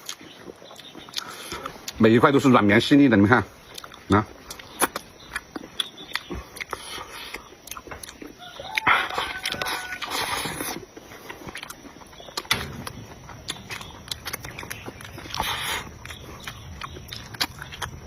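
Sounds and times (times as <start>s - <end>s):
chewing with mouth clicks: 0.0s - 2.0s, 3.5s - 18.0s.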